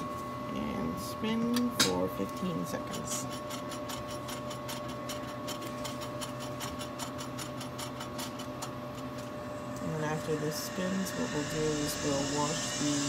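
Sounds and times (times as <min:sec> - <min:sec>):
centrifuge whine and hum: 0:00.0 - 0:13.0.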